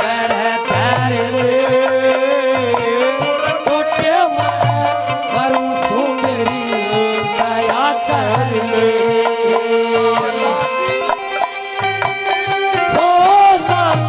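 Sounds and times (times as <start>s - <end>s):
dholak drumming: 0.0s - 14.0s
harmonium melody: 0.0s - 14.0s.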